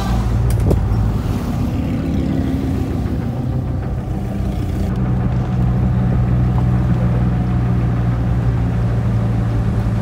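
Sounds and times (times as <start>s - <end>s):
car engines humming: 0.0s - 10.0s.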